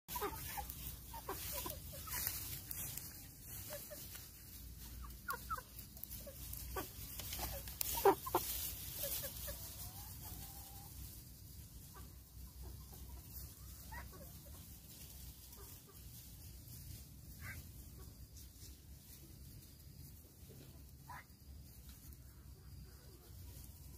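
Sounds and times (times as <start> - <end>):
chickens clucking: 0.1 - 23.9.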